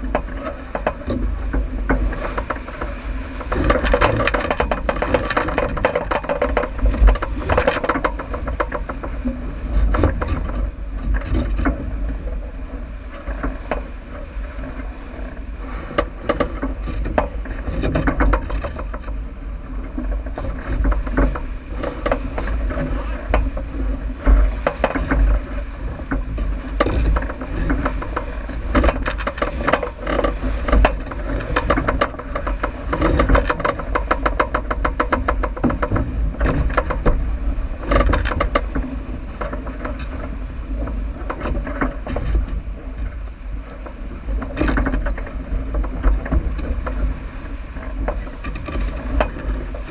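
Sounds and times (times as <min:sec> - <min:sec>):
boat clicks and rattles: 0:00.0 - 0:49.9
wind and water rumble: 0:00.0 - 0:49.9.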